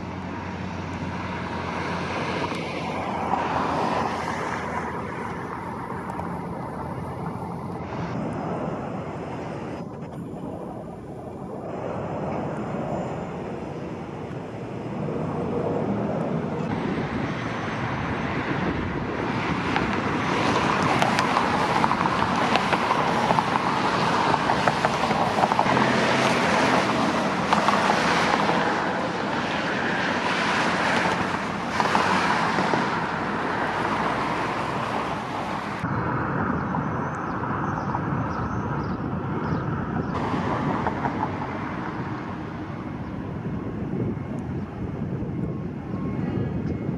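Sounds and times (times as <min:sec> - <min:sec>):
passing vehicle rush: 0:00.0 - 0:46.2.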